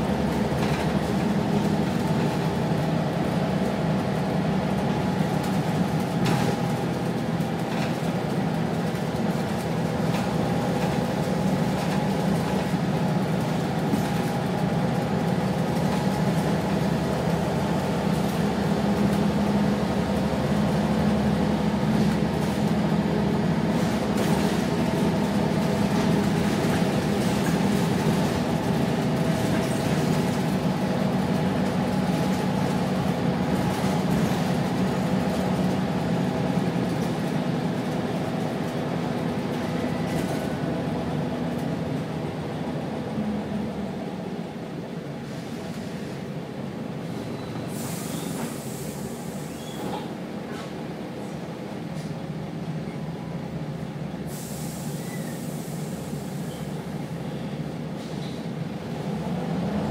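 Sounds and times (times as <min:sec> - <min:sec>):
bus engine running: 0:00.0 - 0:59.9
road noise: 0:00.0 - 0:59.9.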